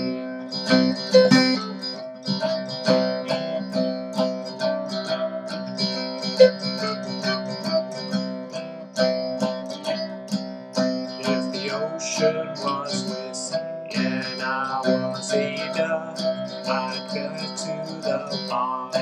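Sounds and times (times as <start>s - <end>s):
picked guitar playing: 0.0s - 19.0s.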